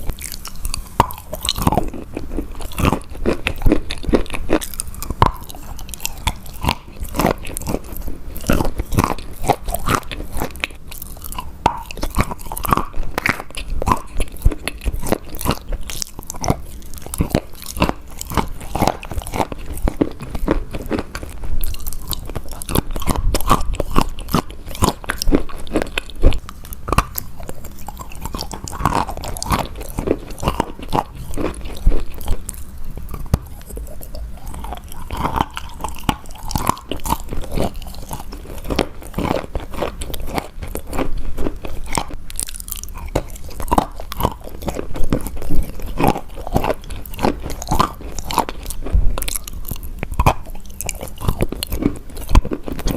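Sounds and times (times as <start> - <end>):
chewing and crunching burger: 0.0 - 52.9.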